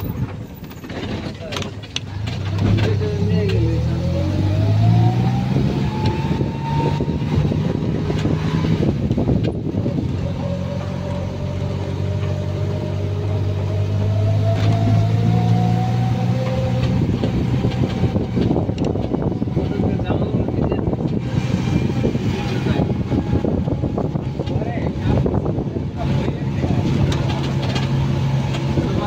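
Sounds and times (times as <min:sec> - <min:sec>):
road noise: 0:00.0 - 0:29.0
vehicle engine humming: 0:00.0 - 0:29.0.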